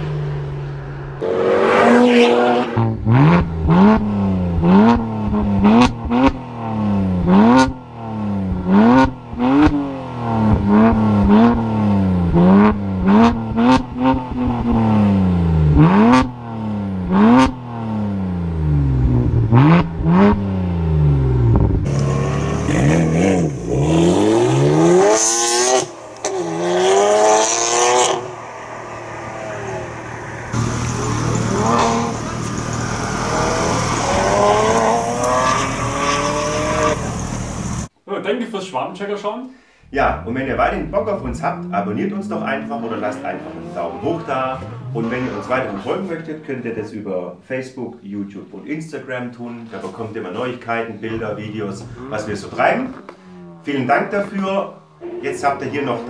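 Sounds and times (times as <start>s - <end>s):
car engine revving: 0.0s - 37.9s, 39.8s - 46.3s, 49.8s - 56.0s
exhaust cracks: 0.0s - 37.9s, 39.8s - 46.6s, 49.2s - 56.0s.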